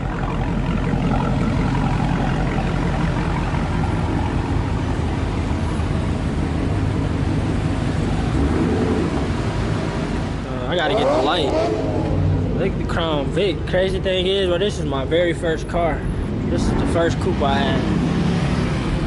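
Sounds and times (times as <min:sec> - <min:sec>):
car engine and exhaust: 0:00.0 - 0:19.0
road noise: 0:00.0 - 0:19.0.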